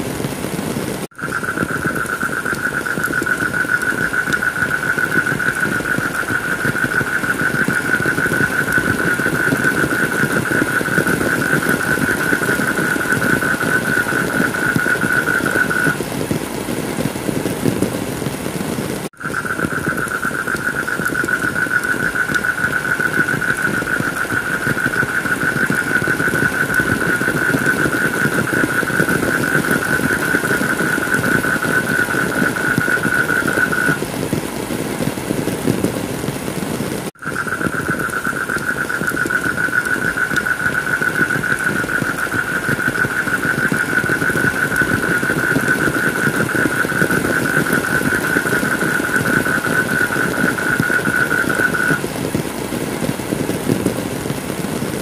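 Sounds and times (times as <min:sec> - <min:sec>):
heavy rain: 0:00.0 - 0:55.0
high-pitched whine: 0:01.1 - 0:16.0, 0:19.2 - 0:34.1, 0:37.2 - 0:52.0.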